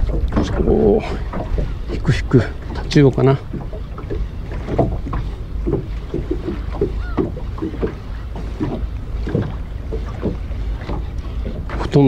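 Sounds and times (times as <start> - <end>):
small waves lapping against boat hull: 0.0 - 12.0.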